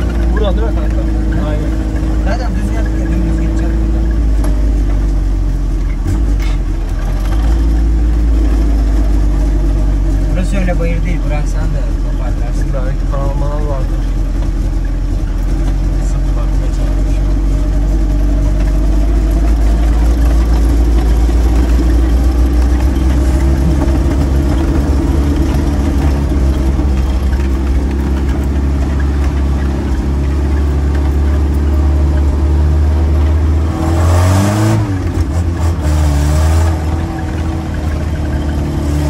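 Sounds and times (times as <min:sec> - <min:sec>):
petrol engine running under load: 0:00.0 - 0:39.0.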